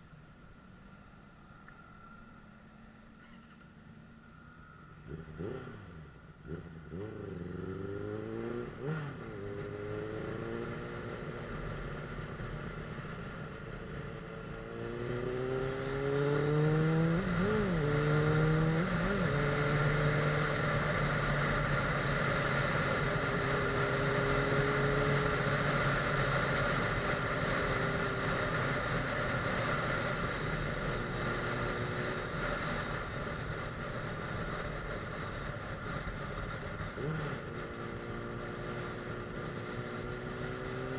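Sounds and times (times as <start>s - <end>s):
motorcycle engine accelerating: 5.0s - 40.9s.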